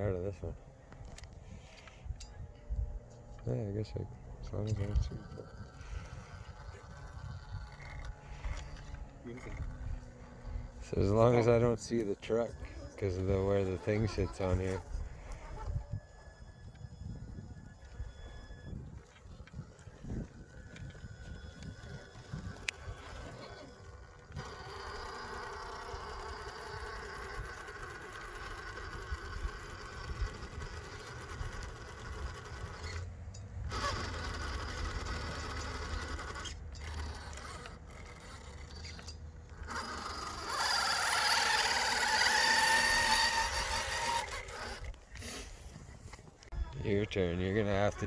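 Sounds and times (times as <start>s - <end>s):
rc car motor whining: 0.0s - 48.0s.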